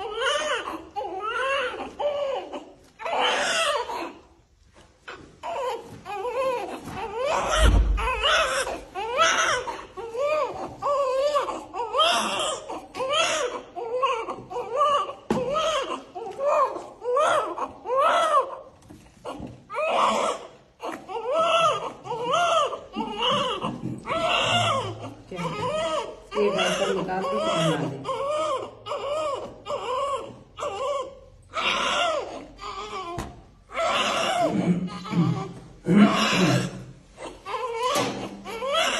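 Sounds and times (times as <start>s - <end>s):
baby crying: 0.0s - 4.3s, 5.1s - 38.9s.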